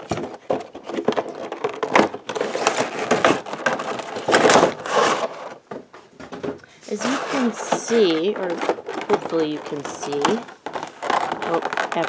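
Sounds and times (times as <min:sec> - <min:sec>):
plastic crinkling against cardboard: 0:00.0 - 0:12.0.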